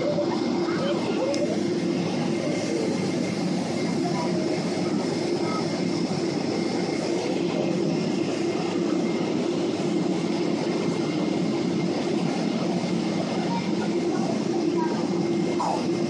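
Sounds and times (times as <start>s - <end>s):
aircraft cabin rumble and hiss: 0.0s - 16.0s
faint steady whine: 0.0s - 16.0s.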